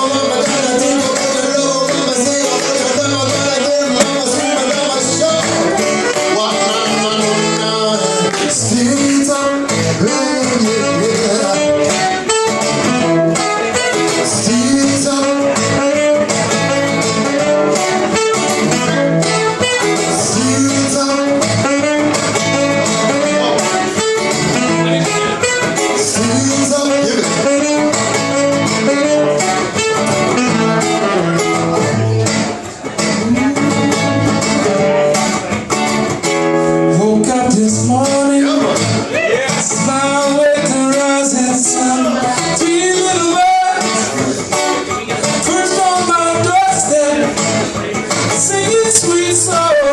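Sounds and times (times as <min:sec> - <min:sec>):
live reggae band: 0:00.0 - 0:49.9.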